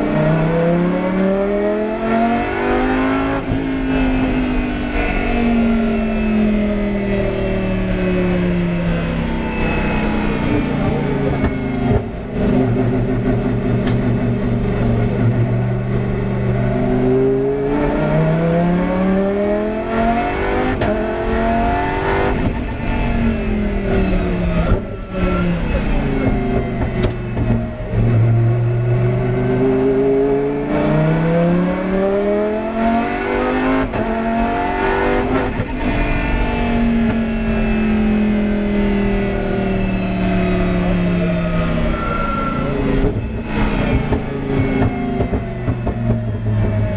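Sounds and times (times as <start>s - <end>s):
race car engine accelerating: 0.0s - 46.9s.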